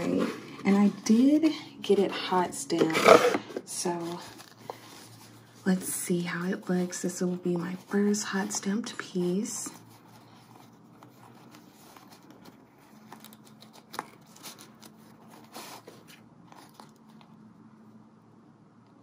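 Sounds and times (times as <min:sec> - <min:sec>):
fabric rustling and scraping: 0:00.0 - 0:17.5.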